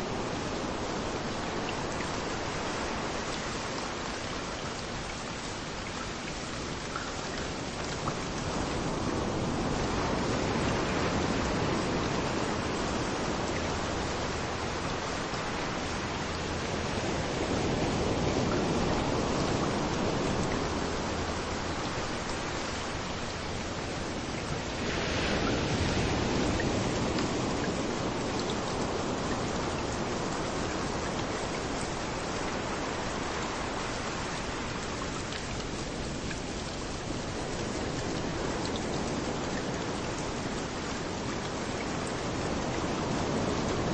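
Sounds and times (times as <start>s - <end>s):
small waves washing onto beach: 0.0s - 43.9s
steady rain: 0.0s - 43.9s.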